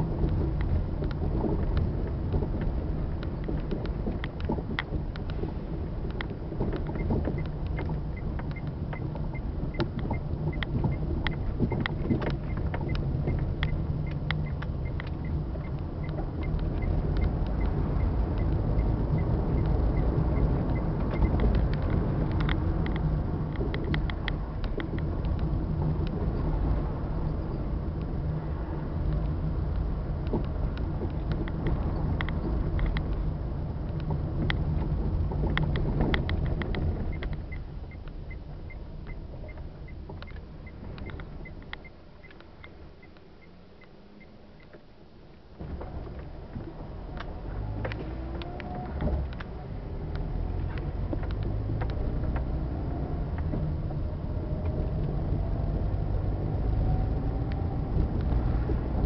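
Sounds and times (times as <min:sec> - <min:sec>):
rattling clicks in bus cabin: 0:00.0 - 0:43.2, 0:45.6 - 0:59.0
bus engine and road rumble: 0:00.0 - 0:59.0.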